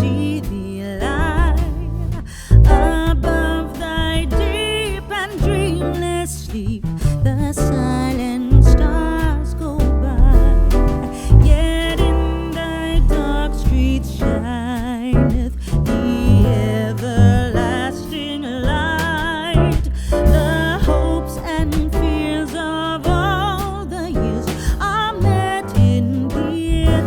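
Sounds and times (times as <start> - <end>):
person singing with vibrato: 0.0 - 6.8, 7.6 - 27.0
instrumental accompaniment with bass: 0.0 - 27.0.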